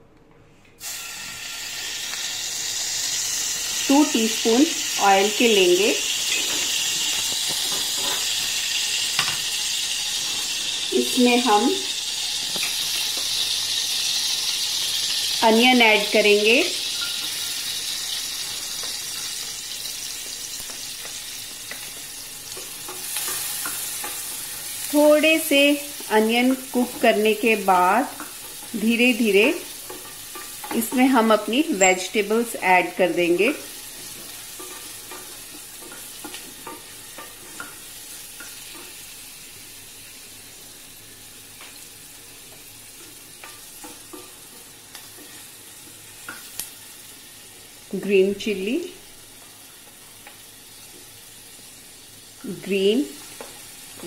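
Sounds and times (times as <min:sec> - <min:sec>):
onion sizzling in hot oil: 0:00.8 - 0:54.0.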